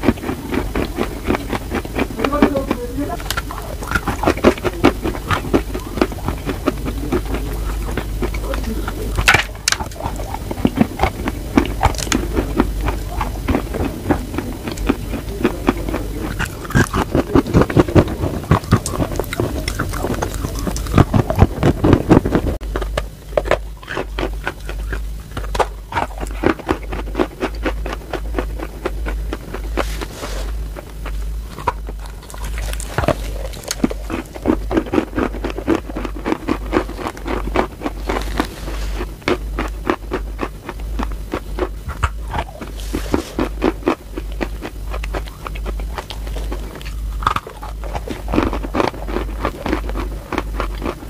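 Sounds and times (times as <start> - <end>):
chewing chalk crunches: 0.0 - 51.0
low hum: 0.0 - 51.0.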